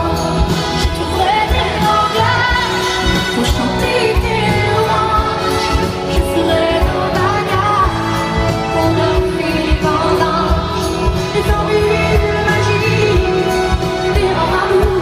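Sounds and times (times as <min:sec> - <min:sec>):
woman singing pop ballad: 0:00.0 - 0:15.0.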